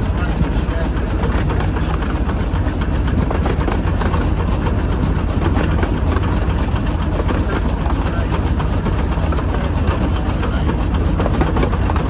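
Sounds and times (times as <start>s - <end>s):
locomotive running gear rumble: 0.0s - 12.0s
wheels clicking over rails: 0.0s - 12.0s.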